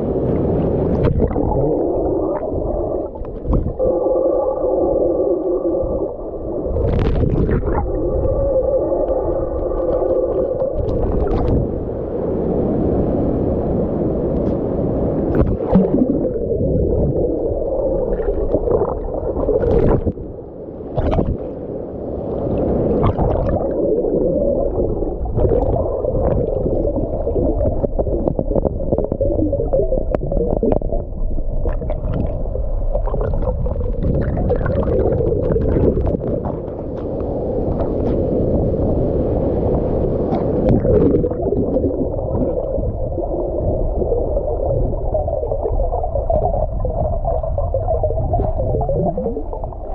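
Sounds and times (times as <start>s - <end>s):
muffled underwater water rumble: 0.0s - 49.9s.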